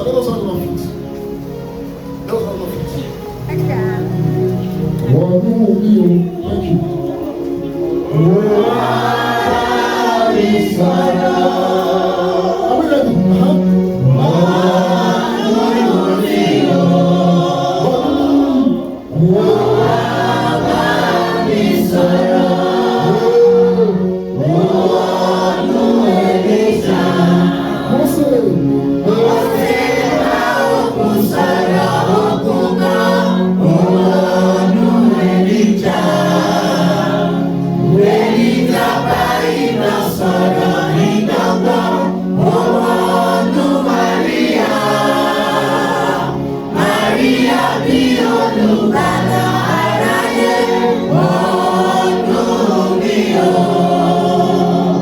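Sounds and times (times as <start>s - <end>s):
congregation and choir singing: 0.0s - 55.0s
musical accompaniment: 0.0s - 55.0s.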